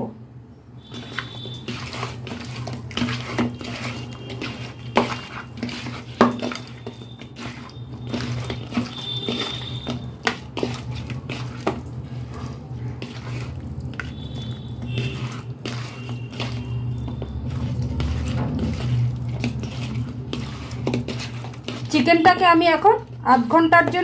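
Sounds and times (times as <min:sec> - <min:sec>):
chicken squelching in marinade: 0:00.8 - 0:24.0.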